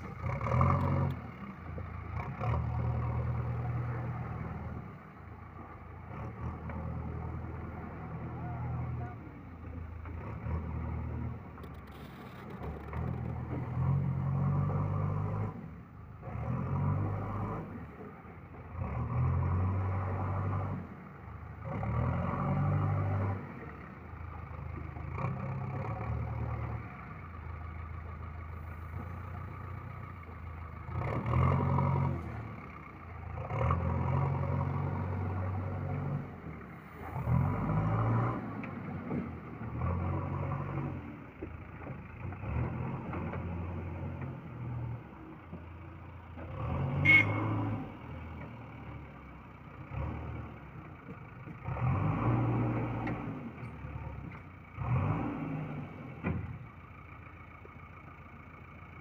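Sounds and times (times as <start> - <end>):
backhoe diesel engine revving: 0.0 - 59.0.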